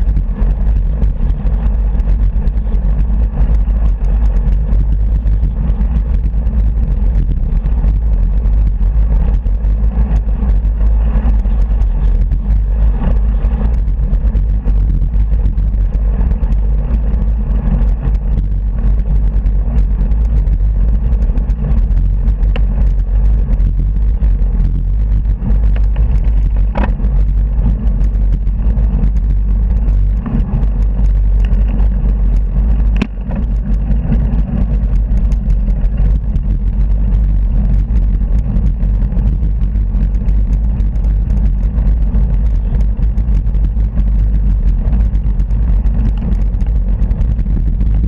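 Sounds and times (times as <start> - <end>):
wind rumbling on microphone: 0.0 - 48.0.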